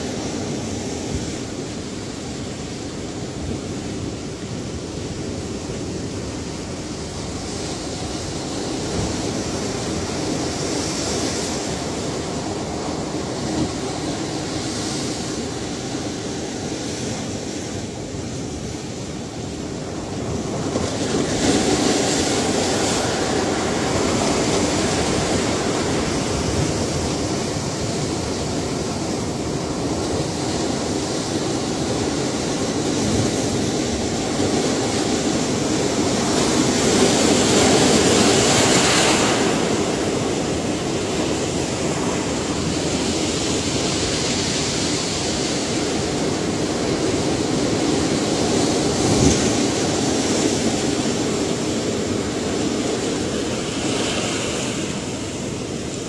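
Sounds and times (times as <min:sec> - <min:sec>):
ocean waves washing: 0:00.0 - 0:56.0
waves breaking: 0:00.0 - 0:56.0.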